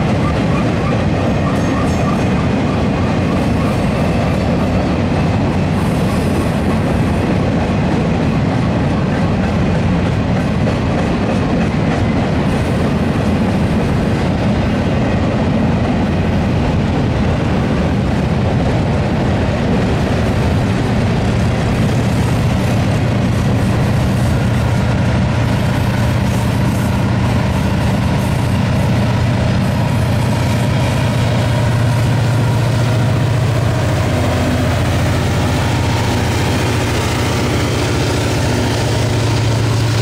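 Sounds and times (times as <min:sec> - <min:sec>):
diesel locomotive engine hum: 0:00.0 - 0:40.0
freight cars rolling on rails: 0:00.0 - 0:40.0.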